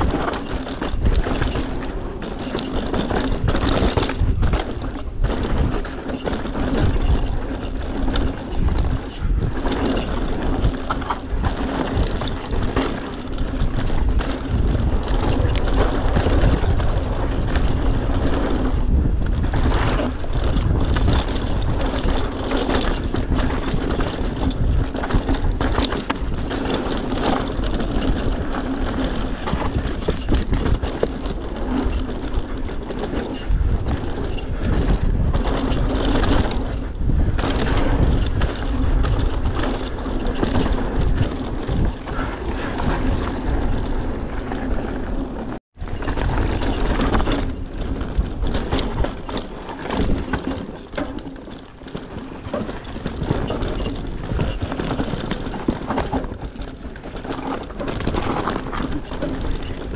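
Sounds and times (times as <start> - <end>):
bike knocks and rattles: 0.0 - 59.9
bike tyres skidding over dirt: 0.0 - 59.9
wind on microphone: 0.0 - 59.9.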